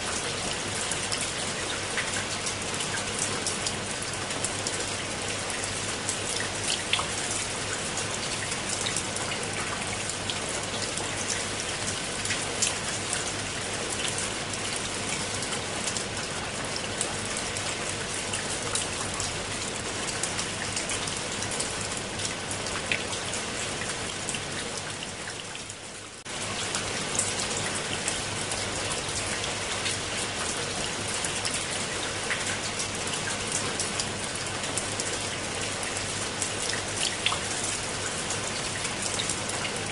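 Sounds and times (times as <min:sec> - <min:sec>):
rain on leaves and stone: 0:00.0 - 0:39.9.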